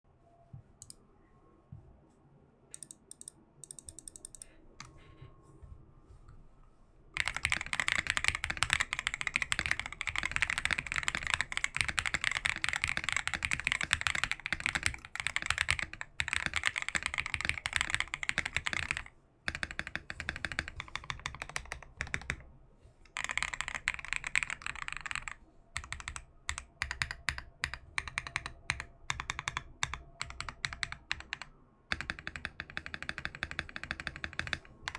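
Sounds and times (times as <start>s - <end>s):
mechanical keyboard typing: 2.8s - 4.9s, 7.2s - 22.4s, 23.1s - 34.9s.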